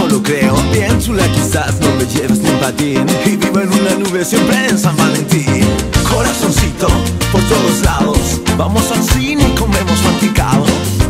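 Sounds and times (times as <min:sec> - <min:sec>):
latin dance band music: 0:00.0 - 0:11.0.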